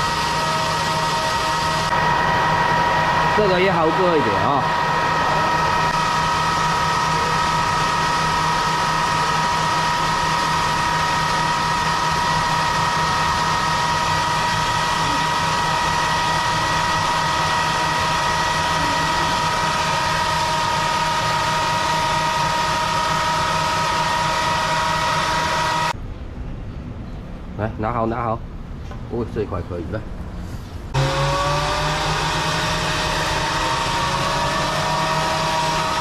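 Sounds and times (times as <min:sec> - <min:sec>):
motor-driven machine whining: 0:00.0 - 0:26.0, 0:30.9 - 0:36.0.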